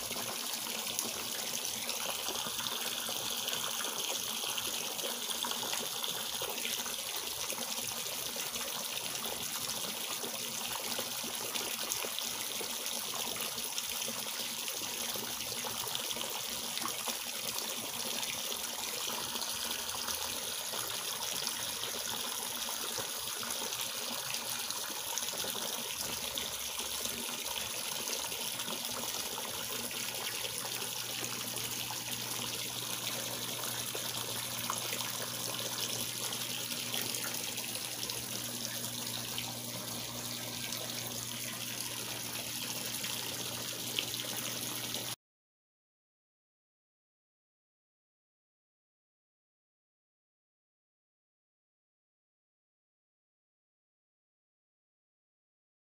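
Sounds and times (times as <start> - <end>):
water splashing into pond: 0.0 - 45.2.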